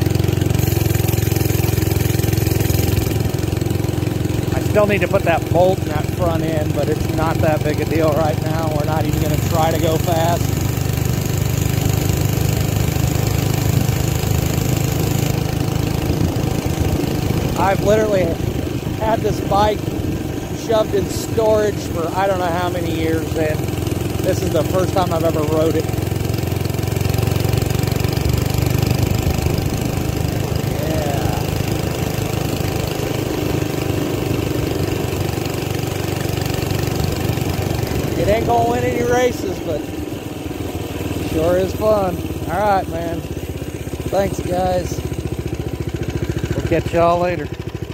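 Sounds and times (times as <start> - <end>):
small minibike engine running: 0.0 - 47.9.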